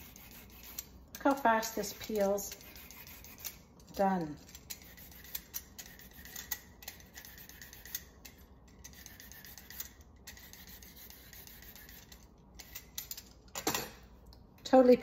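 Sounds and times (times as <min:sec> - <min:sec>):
peeler scraping a carrot: 0:00.0 - 0:13.0.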